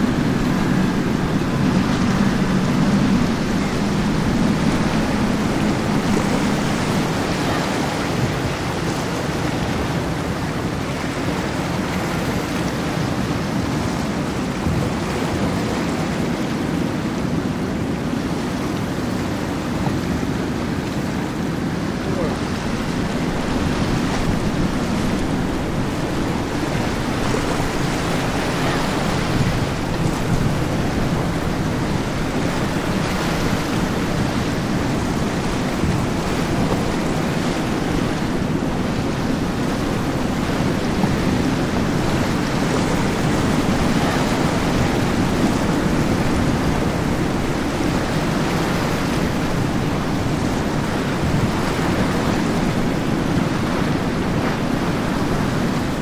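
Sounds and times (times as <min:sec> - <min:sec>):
waves and boat wake: 0:00.0 - 0:56.0
wind buffeting microphone: 0:00.0 - 0:56.0.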